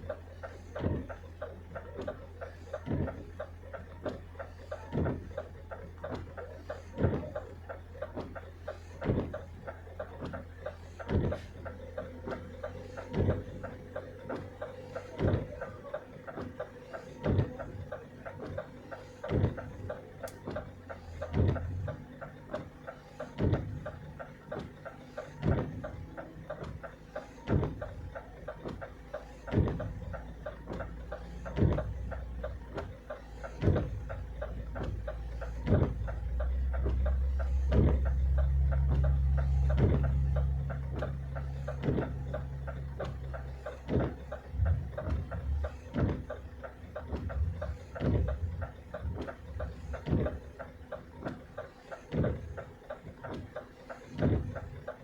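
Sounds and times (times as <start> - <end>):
car engine running: 0.0 - 55.0
windshield wipers knocking: 0.0 - 55.0.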